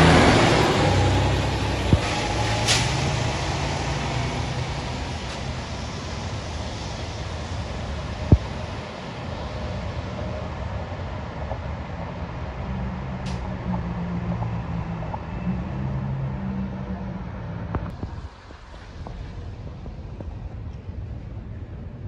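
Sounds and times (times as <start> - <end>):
tyres hissing on wet road: 0.0 - 14.0, 17.5 - 21.5
bus engine hum: 0.0 - 22.0.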